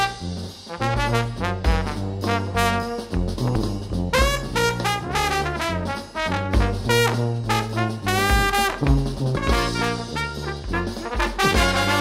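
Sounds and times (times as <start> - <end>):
background music with brass: 0.0 - 12.0.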